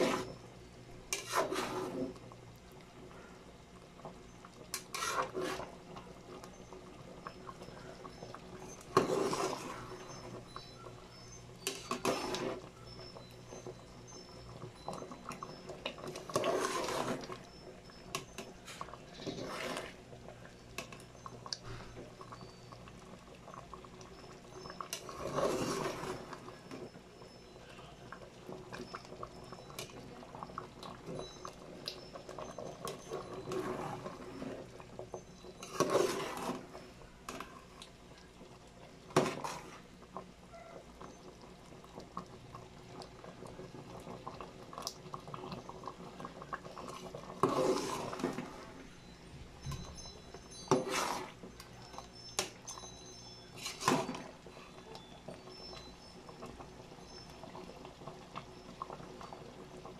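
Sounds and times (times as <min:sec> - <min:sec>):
syrup bubbling in a pot: 0:00.0 - 0:59.9.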